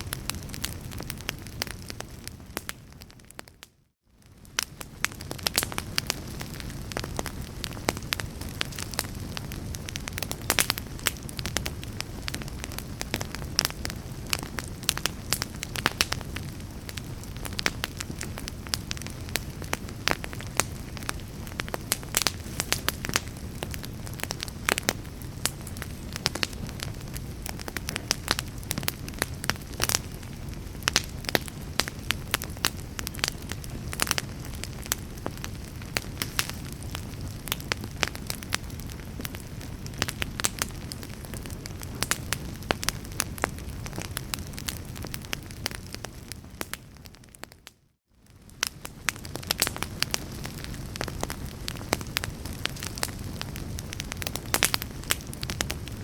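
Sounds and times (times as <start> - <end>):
logs crackling and popping: 0.0 - 56.0
wood fire burning: 0.0 - 56.0.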